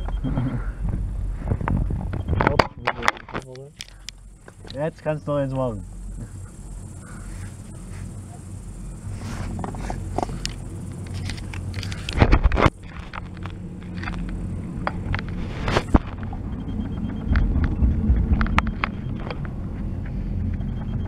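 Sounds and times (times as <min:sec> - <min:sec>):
chairlift humming: 0:03.8 - 0:21.0.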